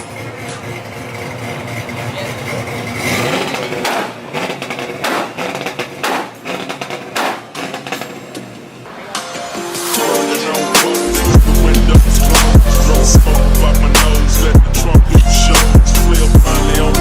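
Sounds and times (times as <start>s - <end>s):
vehicle engine revving in bursts: 0.0s - 8.4s, 11.0s - 17.0s.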